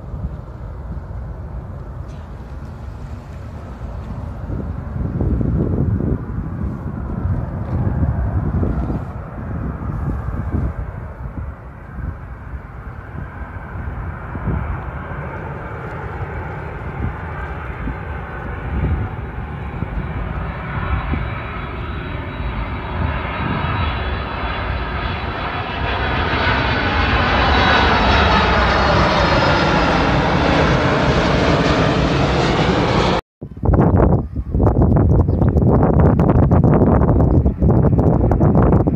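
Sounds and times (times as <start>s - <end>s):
airliner engines rushing: 0.0s - 38.9s
wind gusts on microphone: 0.0s - 38.9s.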